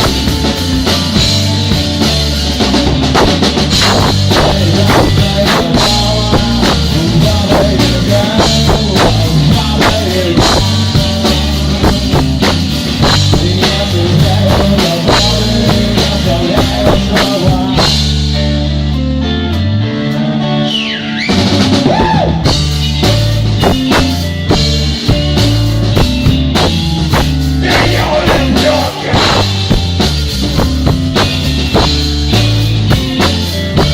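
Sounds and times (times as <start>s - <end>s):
bass guitar: 0.0s - 33.9s
drum kit: 0.0s - 33.9s
electric guitar: 0.0s - 33.9s.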